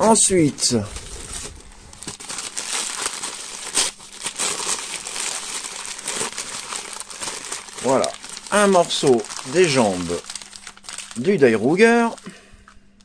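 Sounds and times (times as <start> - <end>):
packing paper crumpling: 0.0 - 12.4.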